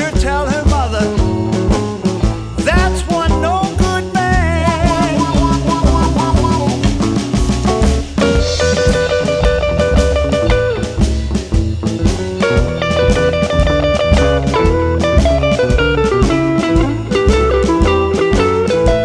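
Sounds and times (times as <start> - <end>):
bass: 0.0 - 19.0
drum kit beat: 0.0 - 19.0
electric guitar solo: 1.0 - 19.0.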